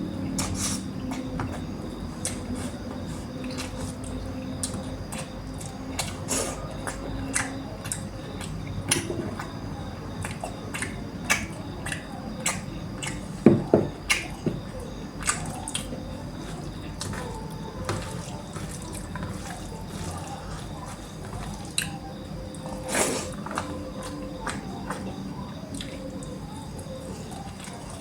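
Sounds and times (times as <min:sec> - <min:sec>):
person chewing wet smacks: 0:00.2 - 0:28.0.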